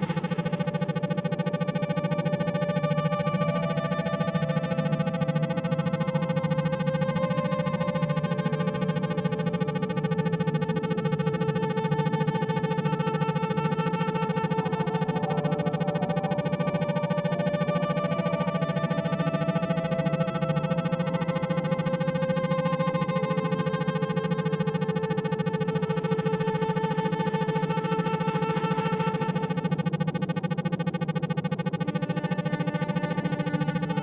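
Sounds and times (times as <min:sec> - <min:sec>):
pulsing synthesizer drone: 0:00.0 - 0:34.0
steady low hum: 0:00.0 - 0:34.0.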